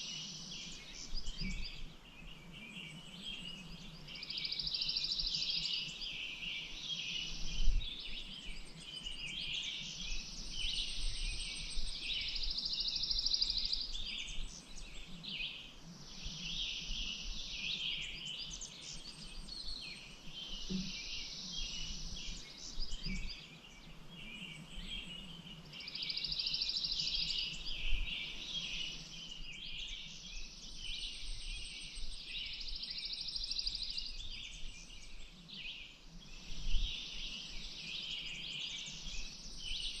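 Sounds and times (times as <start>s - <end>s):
songbirds chirping and singing: 0.0s - 40.0s.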